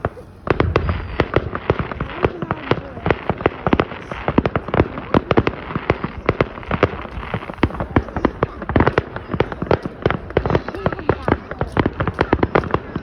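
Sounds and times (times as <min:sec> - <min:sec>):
fireworks bangs and pops: 0:00.0 - 0:13.0
fireworks crackle: 0:00.0 - 0:13.0.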